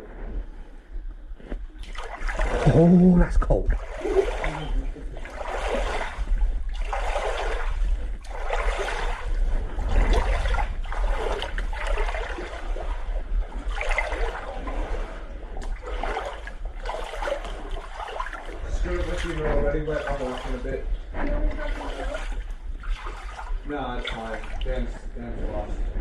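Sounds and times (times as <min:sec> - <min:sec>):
floodwater sloshing and splashing: 0:00.0 - 0:26.0.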